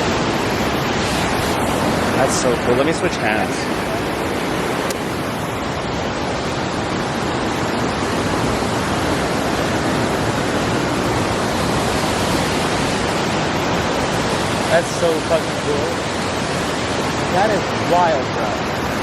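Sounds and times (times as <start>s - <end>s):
waterfall rushing and splashing: 0.0s - 19.0s.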